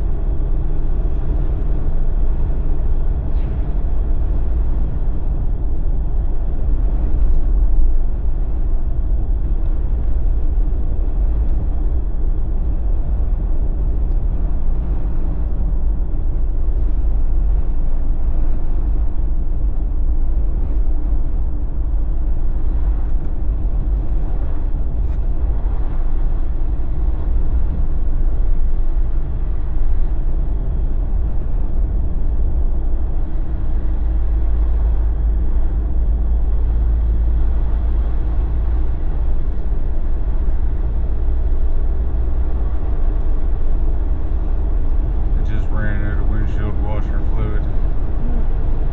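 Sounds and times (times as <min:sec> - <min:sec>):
car driving on road: 0:00.0 - 0:48.9.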